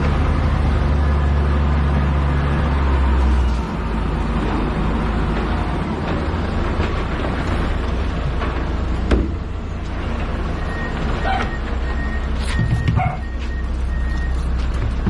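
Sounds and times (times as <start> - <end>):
heavy machine engine rumbling: 0.0 - 15.0.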